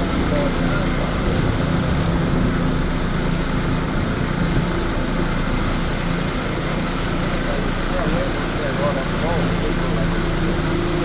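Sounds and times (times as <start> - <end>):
boat engine drone: 0.0 - 11.0
wind and water rushing: 0.0 - 11.0.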